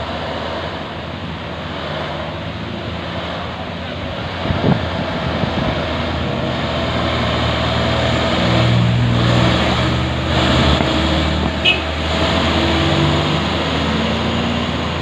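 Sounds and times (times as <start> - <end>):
diesel truck engines rumbling: 0.0 - 15.0.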